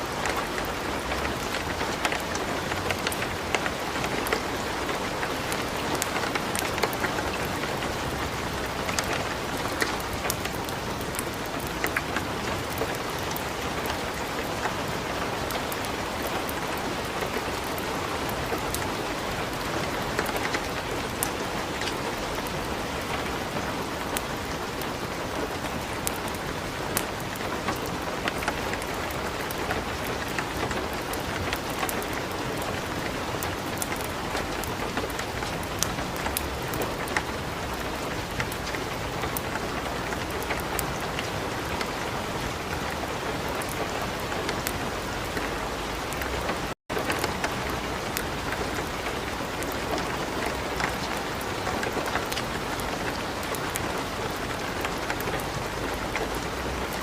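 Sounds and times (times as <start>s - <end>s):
light rain hiss: 0.0s - 57.0s
wood fire crackling: 0.0s - 57.0s.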